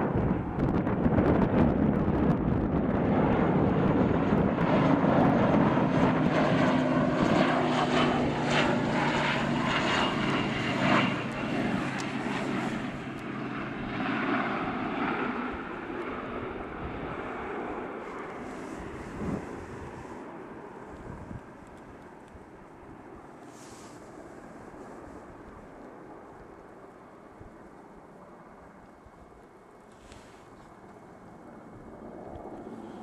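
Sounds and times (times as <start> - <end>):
turboprop airliner flying past: 0.0 - 33.0.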